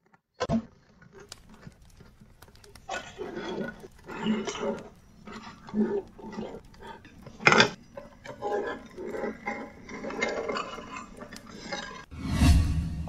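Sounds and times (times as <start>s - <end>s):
parts clattering and rubbing: 0.6s - 12.1s.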